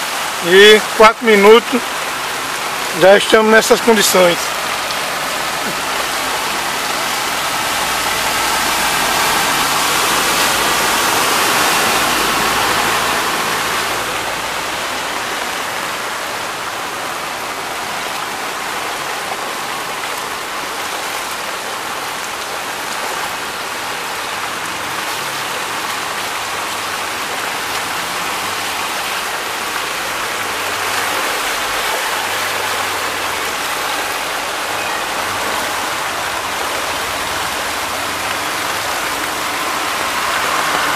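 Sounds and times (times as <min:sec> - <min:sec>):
bus driving through floodwater: 0:00.0 - 0:40.9
heavy rain on flooded street: 0:00.0 - 0:40.9.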